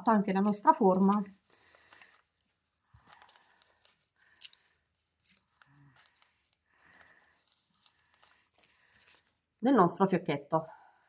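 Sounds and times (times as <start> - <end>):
paper and foam sheet rustling: 0.2 - 9.5.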